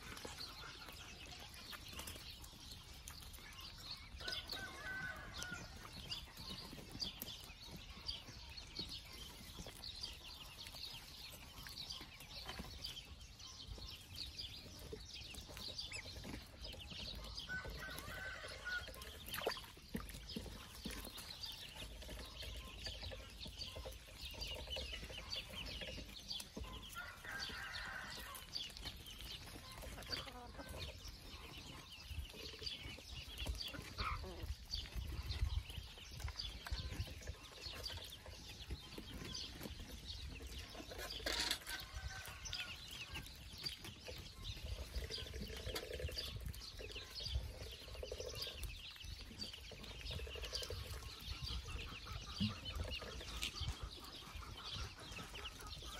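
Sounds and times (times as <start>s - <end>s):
chickens clucking: 0.0s - 55.9s
ducklings peeping: 0.0s - 55.9s.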